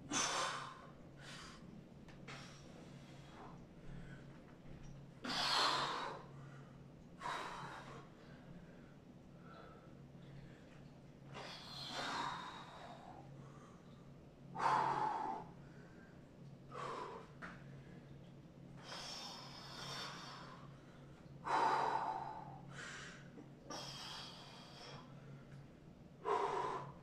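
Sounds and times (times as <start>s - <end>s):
man breathing hard: 0.0s - 4.5s, 5.2s - 13.9s, 14.6s - 18.1s, 18.8s - 20.8s, 21.4s - 25.6s, 26.2s - 27.0s.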